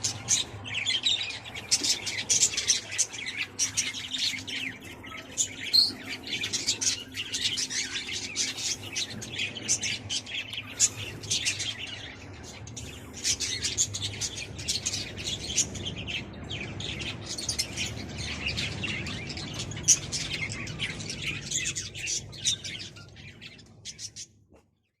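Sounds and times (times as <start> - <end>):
parrots chattering and chirping: 0.0 - 24.3.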